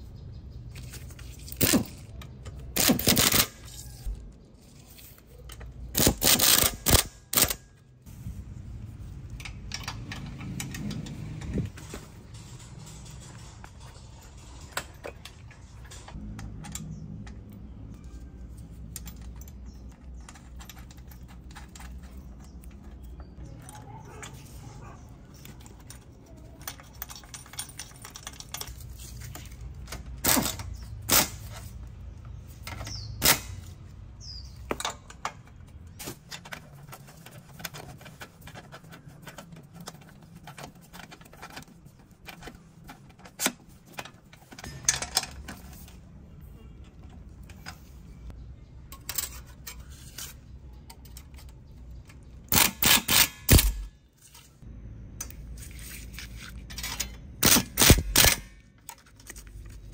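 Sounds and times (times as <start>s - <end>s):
metal parts and tools clinking: 0.6s - 59.9s.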